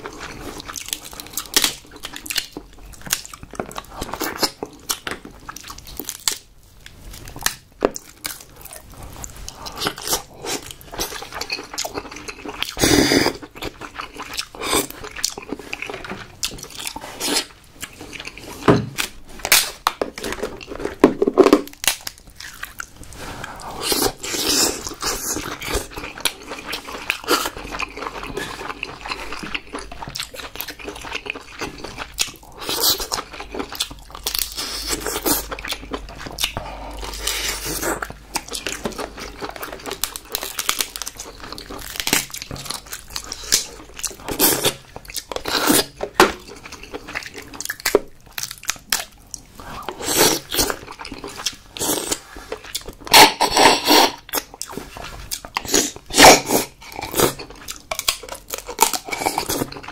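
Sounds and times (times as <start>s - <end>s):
chewing and biting: 0.0s - 59.9s
crab shell crunching: 7.1s - 59.9s.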